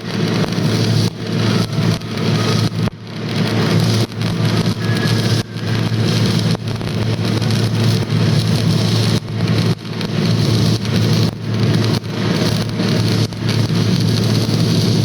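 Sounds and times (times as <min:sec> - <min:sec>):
arc welding crackling hiss: 0:00.0 - 0:15.0.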